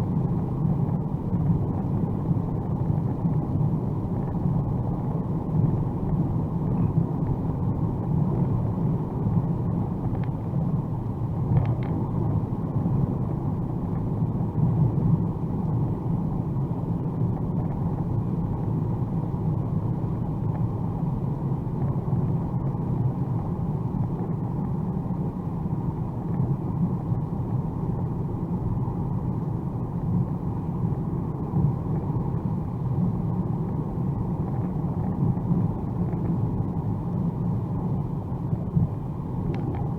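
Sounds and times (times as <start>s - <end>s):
muffled car cabin rumble: 0.0s - 39.9s.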